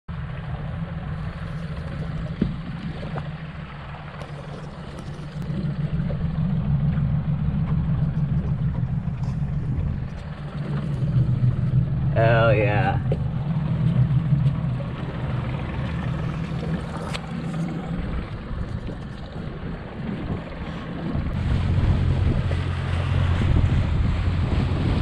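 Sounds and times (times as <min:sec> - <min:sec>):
outboard motor running: 0:00.1 - 0:25.0.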